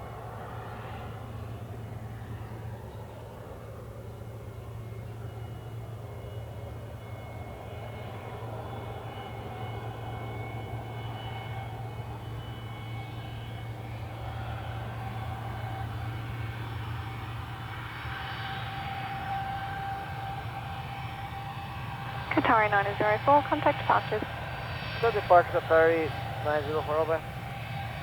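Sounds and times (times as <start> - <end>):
jet engines at takeoff: 0.0 - 28.0.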